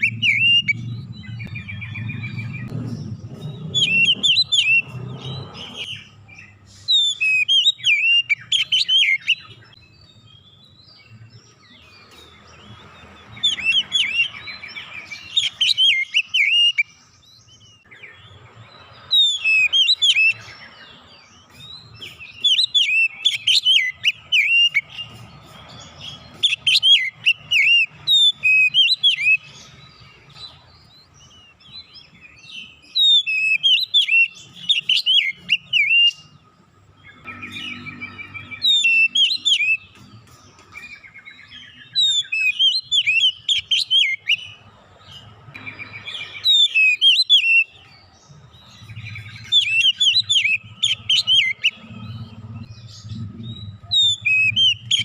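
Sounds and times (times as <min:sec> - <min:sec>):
songbird whistling and chattering: 0:00.0 - 0:55.0.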